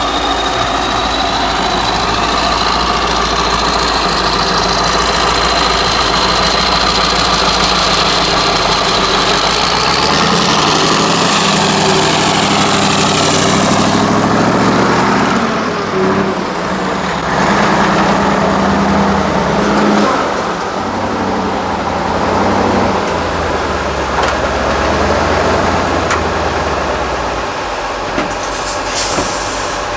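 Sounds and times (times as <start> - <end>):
diesel truck engine revving: 0.0 - 29.9.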